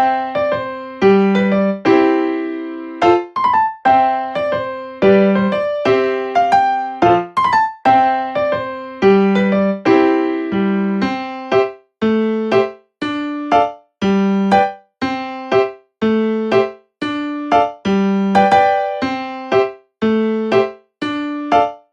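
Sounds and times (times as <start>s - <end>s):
electric piano music: 0.0s - 21.9s.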